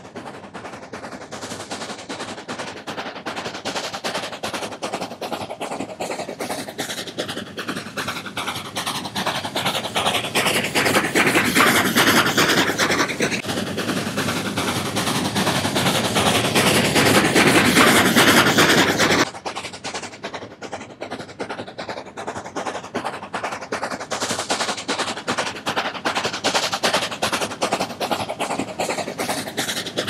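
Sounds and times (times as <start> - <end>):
steam locomotive chuffing: 0.0 - 30.0.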